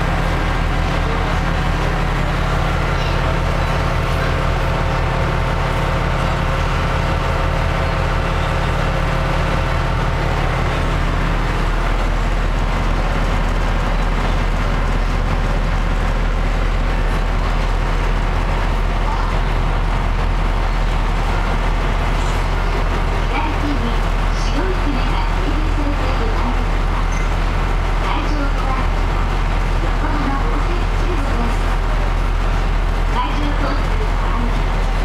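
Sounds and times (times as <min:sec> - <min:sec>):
boat engine low drone: 0:00.0 - 0:35.0.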